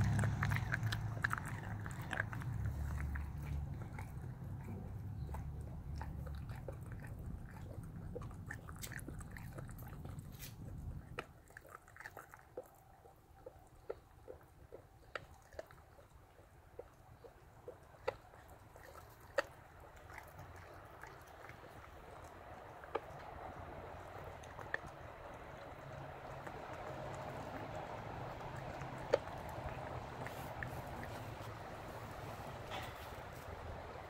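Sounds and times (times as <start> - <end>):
low background rumble: 0.0 - 34.0
puppy chewing and crunching bone: 0.0 - 34.0.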